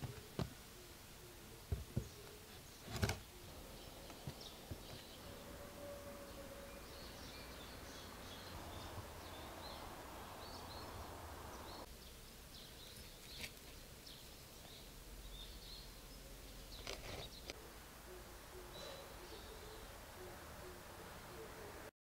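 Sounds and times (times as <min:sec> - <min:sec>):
small birds chirping: 0:00.0 - 0:21.9
soft hiss: 0:00.0 - 0:21.9.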